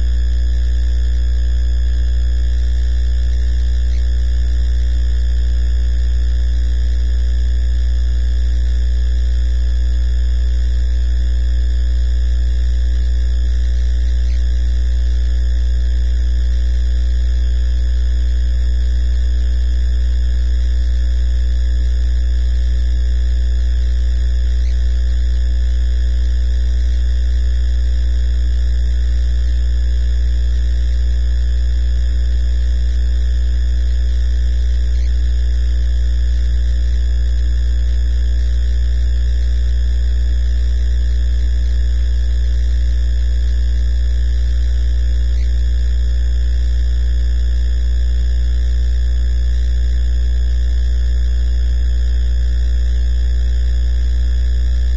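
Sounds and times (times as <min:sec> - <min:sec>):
faint buzzing tones: 0:00.0 - 0:46.5
electrical mains hum: 0:00.0 - 0:46.9, 0:54.4 - 0:54.9.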